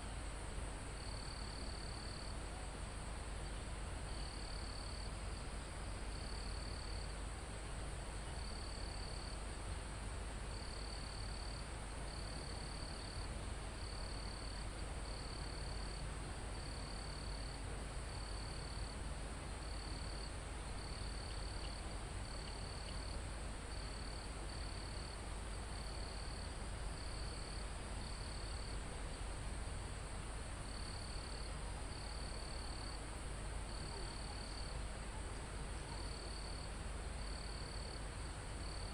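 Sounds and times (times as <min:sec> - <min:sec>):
cricket chirping trills: 0:00.9 - 0:02.4, 0:03.2 - 0:07.2, 0:08.2 - 0:09.5, 0:10.5 - 0:38.9.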